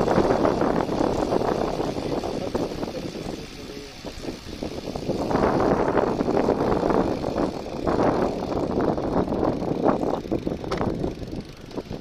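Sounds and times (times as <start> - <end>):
bicycle rattling jolts: 0.0 - 12.0
wind and road rumble: 0.0 - 12.0.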